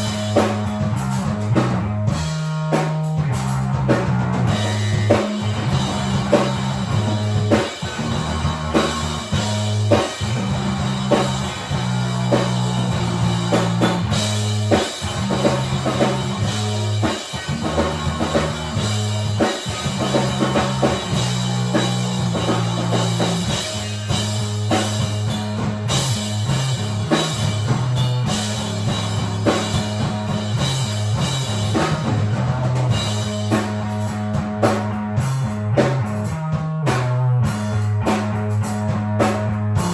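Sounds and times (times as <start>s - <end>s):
bass line: 0.0s - 39.9s
drum kit: 0.0s - 39.9s
electric guitar: 0.0s - 39.9s.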